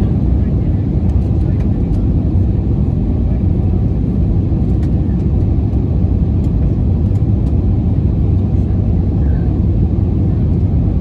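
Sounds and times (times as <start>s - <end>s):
jet airliner cabin noise: 0.0s - 11.0s.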